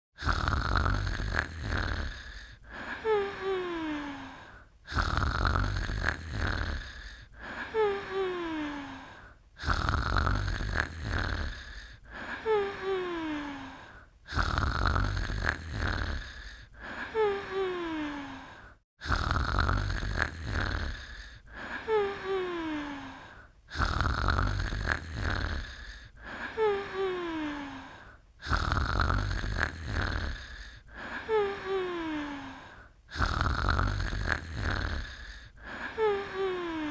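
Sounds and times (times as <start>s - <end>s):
rasping snore: 0.2s - 36.9s.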